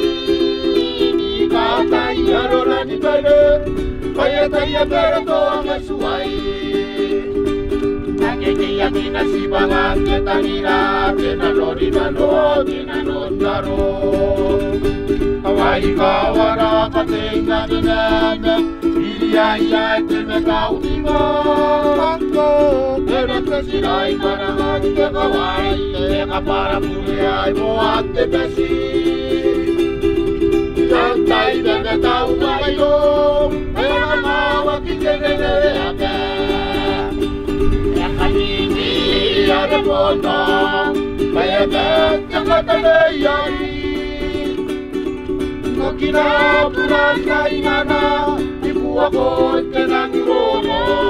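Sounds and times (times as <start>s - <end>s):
people singing: 0.0s - 29.8s, 30.7s - 44.8s, 45.6s - 51.0s
strummed ukulele: 0.0s - 51.0s.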